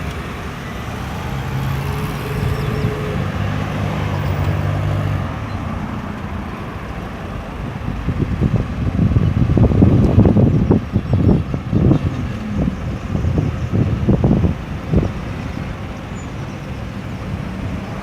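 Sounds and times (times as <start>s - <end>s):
low traffic rumble: 0.0s - 18.0s
road traffic noise: 0.0s - 18.0s
vehicle engine low hum: 0.0s - 18.0s.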